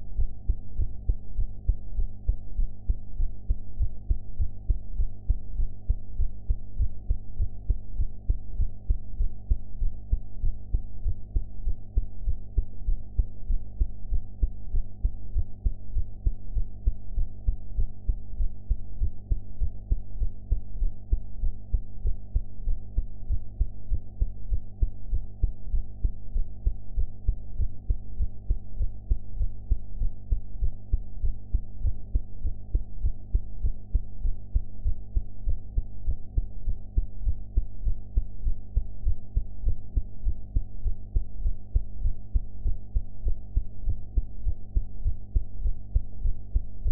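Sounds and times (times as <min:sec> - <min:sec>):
heartbeat: 0:00.0 - 0:46.9
low hum: 0:00.0 - 0:46.9.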